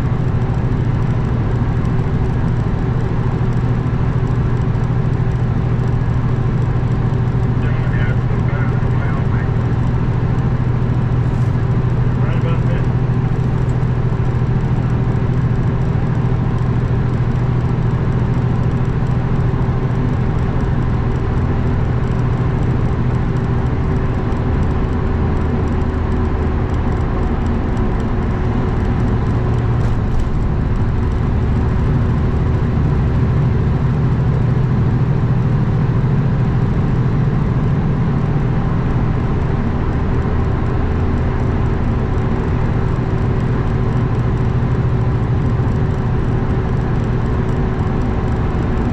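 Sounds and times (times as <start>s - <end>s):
road and wind noise: 0.0s - 48.9s
truck diesel engine drone: 0.0s - 48.9s.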